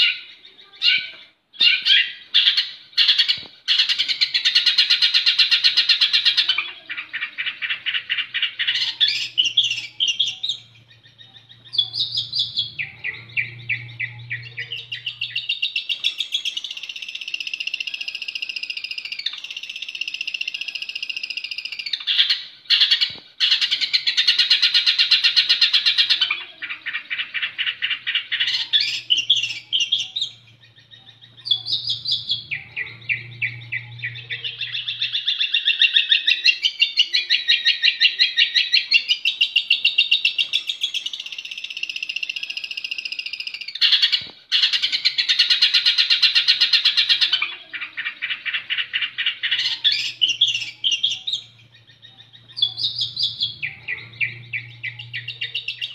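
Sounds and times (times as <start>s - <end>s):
bird harsh trilled chatter: 0.0s - 55.9s.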